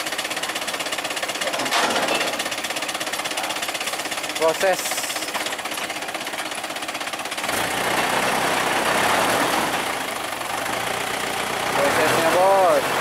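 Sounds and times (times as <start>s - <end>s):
truck engine knocking: 0.0s - 13.0s.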